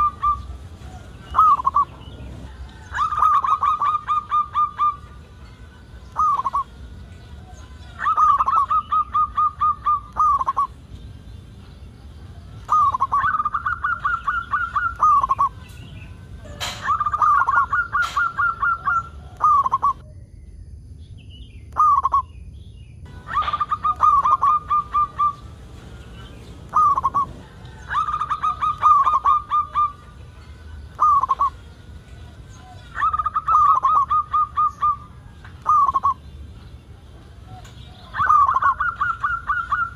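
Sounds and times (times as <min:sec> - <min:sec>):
dove cooing: 0:00.0 - 0:05.2, 0:06.1 - 0:10.8, 0:12.4 - 0:15.7, 0:16.4 - 0:20.0, 0:23.1 - 0:30.2, 0:30.8 - 0:36.4, 0:37.1 - 0:39.9.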